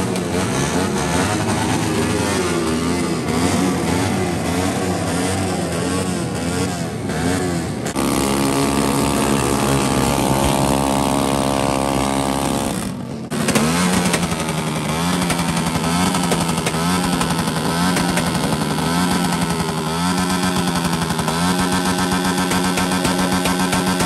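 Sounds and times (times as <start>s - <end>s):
motorcycle engine at high revs: 0.0s - 24.0s
motorcycle revving in quick blips: 0.0s - 24.0s.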